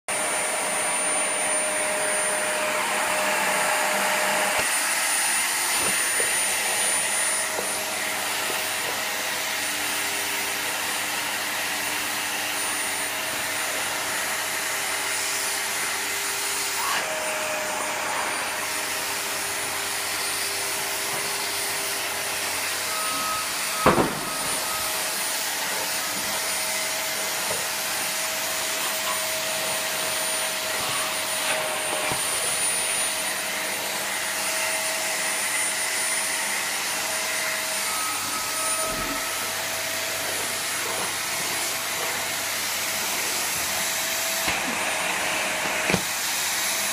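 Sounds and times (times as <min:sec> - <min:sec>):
vacuum cleaner running: 0:00.1 - 0:46.9.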